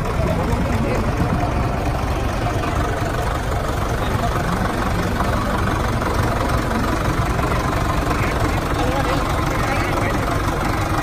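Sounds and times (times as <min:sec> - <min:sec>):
people talking: 0:00.0 - 0:11.0
tractor engine idling: 0:00.0 - 0:11.0.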